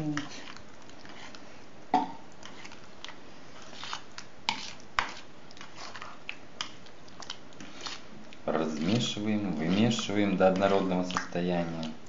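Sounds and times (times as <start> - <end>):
fork stirring wet batter: 0.0 - 1.6, 2.2 - 12.0.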